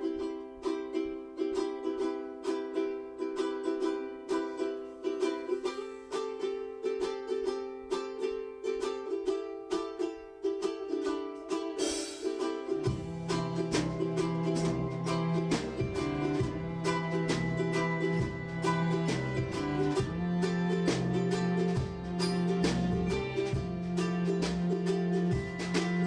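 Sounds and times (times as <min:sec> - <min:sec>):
plucked string instrument music: 0:00.0 - 0:26.0.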